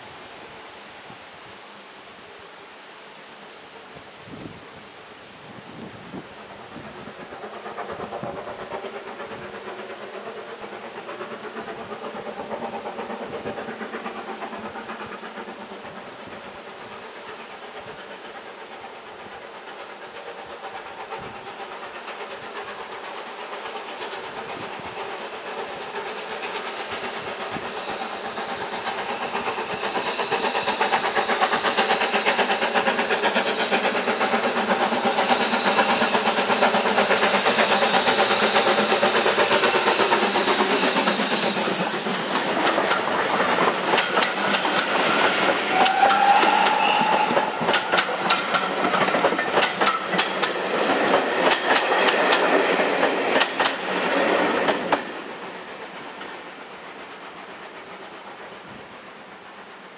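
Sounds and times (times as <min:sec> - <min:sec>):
steam hissing: 0:00.0 - 0:59.9
steam locomotive exhaust beats: 0:03.7 - 0:59.9
train wheels clicking over rail joints: 0:06.1 - 0:59.9.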